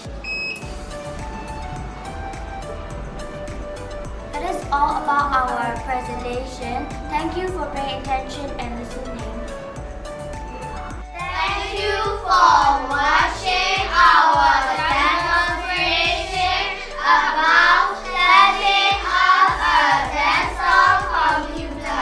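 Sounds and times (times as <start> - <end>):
music with children singing: 0.0 - 22.0.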